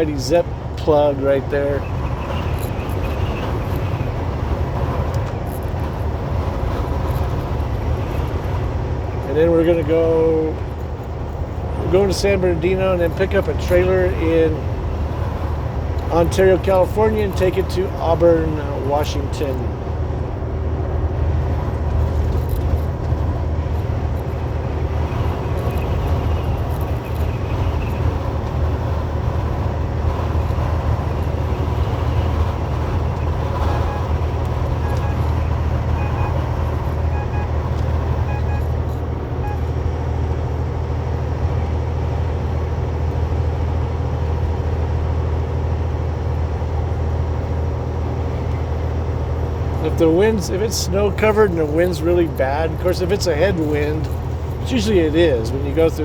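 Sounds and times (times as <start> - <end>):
road noise hiss: 0.0 - 56.0
truck diesel engine droning: 0.0 - 56.0.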